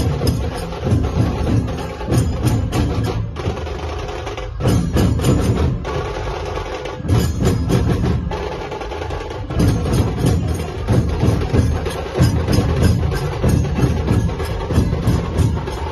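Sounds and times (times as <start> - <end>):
barrel drums: 0.0 - 15.9
hand cymbals: 0.0 - 15.9
kettle drums: 0.0 - 15.9.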